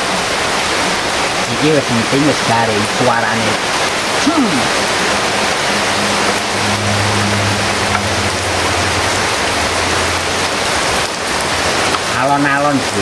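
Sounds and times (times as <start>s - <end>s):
heavy rain falling: 0.0s - 13.0s
low hum: 0.7s - 12.1s.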